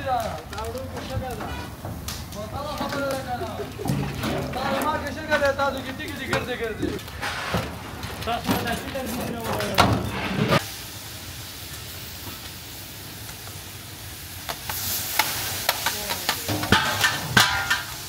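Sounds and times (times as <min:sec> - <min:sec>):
hiss of wood fires: 0:00.0 - 0:18.0.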